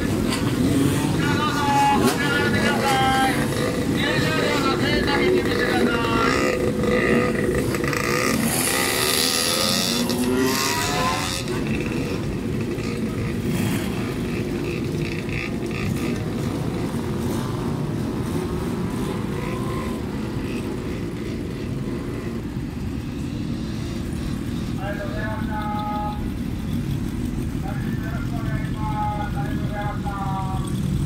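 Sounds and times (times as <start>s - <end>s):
motorcycle engines revving and idling: 0.0s - 31.0s.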